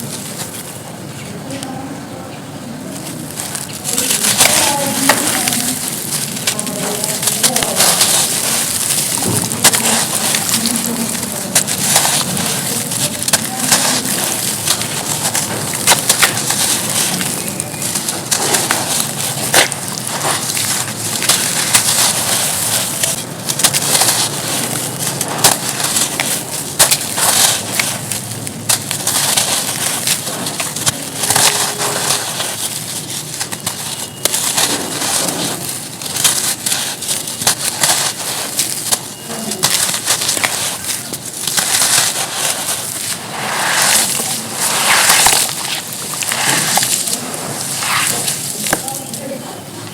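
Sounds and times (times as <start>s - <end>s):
charcoal crunching and crackling: 0.0s - 49.9s.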